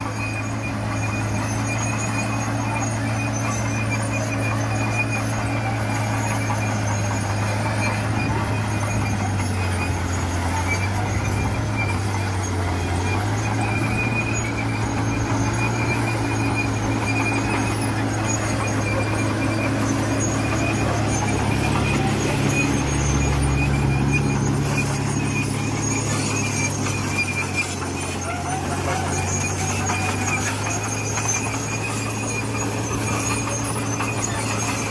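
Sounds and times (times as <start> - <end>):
heavy diesel engine running: 0.0 - 34.9
high-pitched squeal: 0.0 - 34.9.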